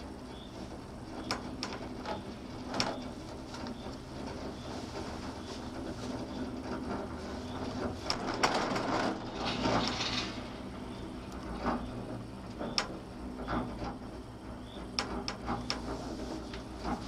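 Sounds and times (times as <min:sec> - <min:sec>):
gondola mechanical hum: 0:00.0 - 0:17.0
rattling: 0:00.0 - 0:17.0.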